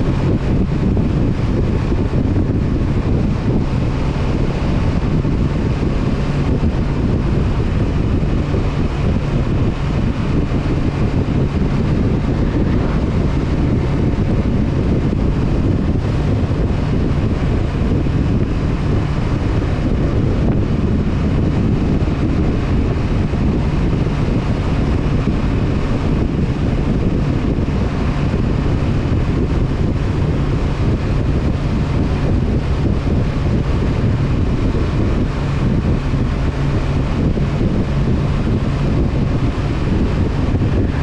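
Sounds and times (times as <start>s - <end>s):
motorcycle engine cruising: 0.0s - 41.0s
wind rushing over microphone: 0.0s - 41.0s.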